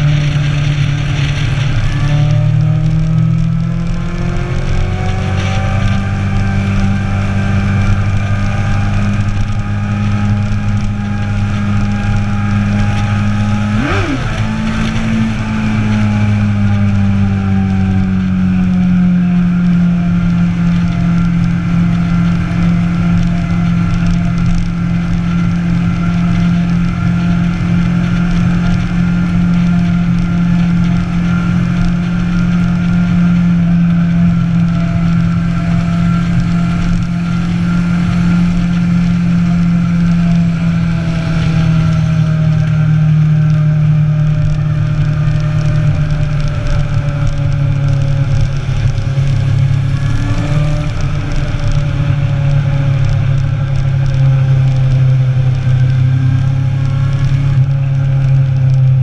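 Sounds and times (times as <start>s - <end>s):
motorcycle engine cruising: 0.0s - 59.0s
wind noise: 0.0s - 59.0s.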